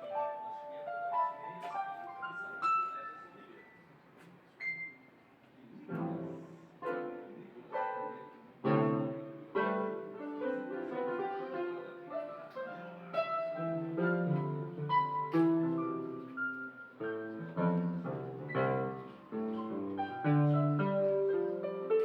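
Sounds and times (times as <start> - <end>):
electronic keyboard piano chords: 0.0 - 3.5, 5.9 - 22.0.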